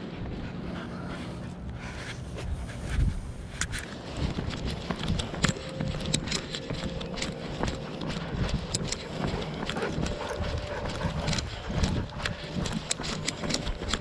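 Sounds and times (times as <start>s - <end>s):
running footsteps on dirt: 1.8s - 14.0s.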